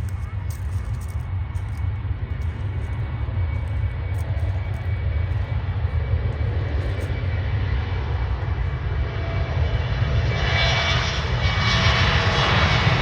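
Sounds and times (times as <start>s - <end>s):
faint high engine whine: 0.0s - 13.0s
jet engine rumble: 0.0s - 13.0s.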